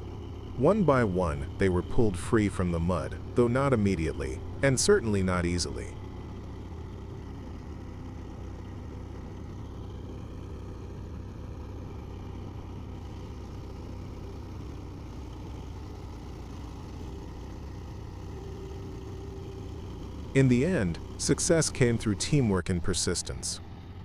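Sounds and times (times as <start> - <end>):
heavy vehicle engine rumbling: 0.0 - 24.0.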